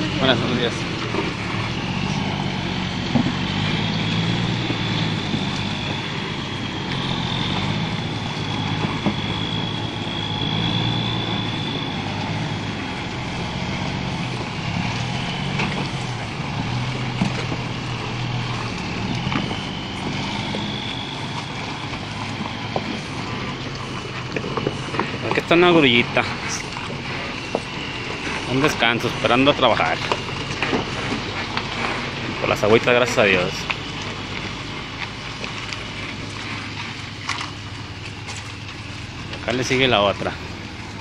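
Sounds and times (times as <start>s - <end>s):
thin high whine: 0.0s - 41.0s
truck diesel engine drone: 0.0s - 41.0s.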